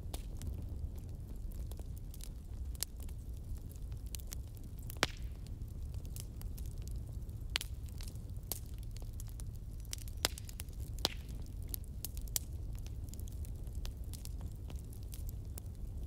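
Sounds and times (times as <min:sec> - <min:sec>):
fire burning with low rumble: 0:00.0 - 0:16.0
fire crackling and popping: 0:00.0 - 0:16.0.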